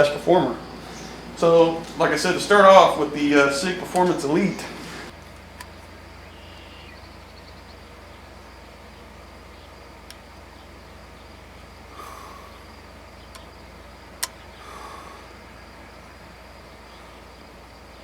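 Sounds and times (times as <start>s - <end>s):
faint outdoor noise: 0.0s - 18.0s
steady low hum: 0.0s - 18.0s.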